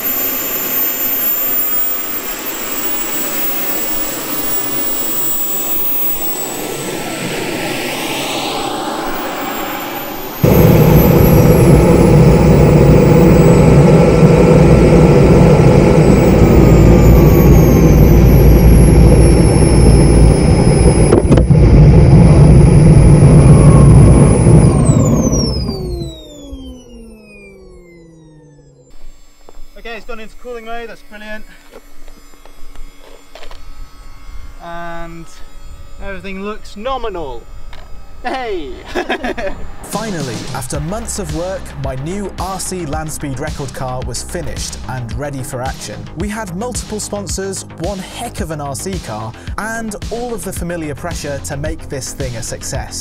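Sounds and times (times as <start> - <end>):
jet turbine whine: 0.0 - 53.0.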